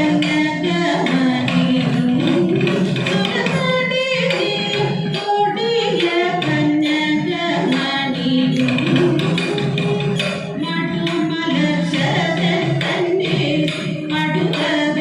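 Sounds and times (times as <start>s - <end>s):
women singing slow devotional melody: 0.0s - 15.0s.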